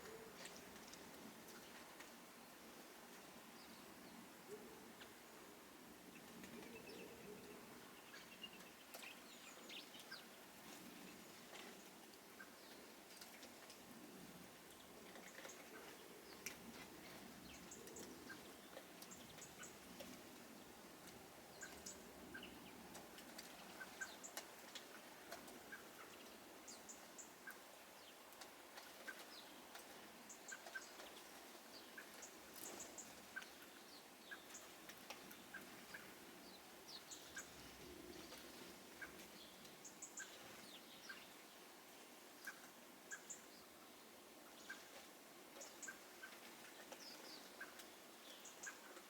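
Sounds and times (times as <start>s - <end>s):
small birds chirping: 6.1s - 49.0s.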